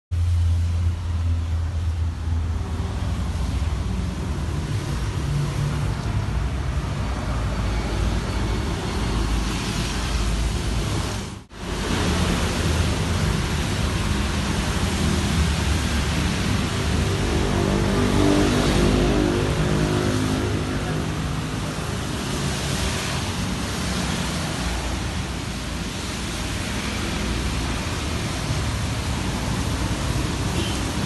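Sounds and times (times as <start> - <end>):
vehicle rumbling: 0.1 - 31.0
noisy hiss: 0.2 - 31.0.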